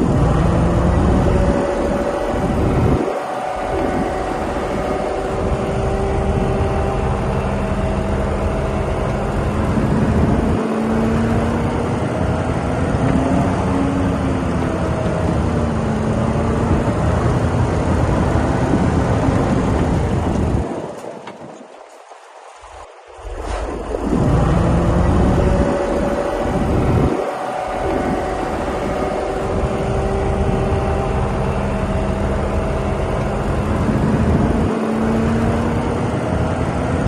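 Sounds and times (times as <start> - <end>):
heavy diesel engine under load: 0.0 - 37.0.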